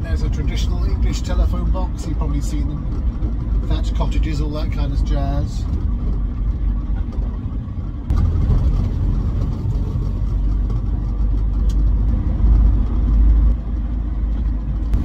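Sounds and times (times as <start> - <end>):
car engine running: 0.0 - 15.0
low road rumble: 0.0 - 15.0.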